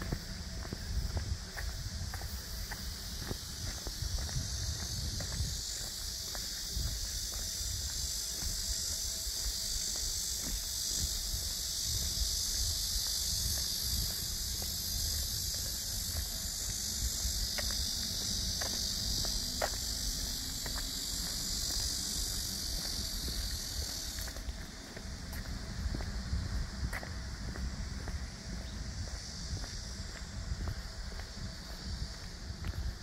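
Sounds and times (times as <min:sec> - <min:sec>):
cicadas buzzing: 0:00.0 - 0:33.0.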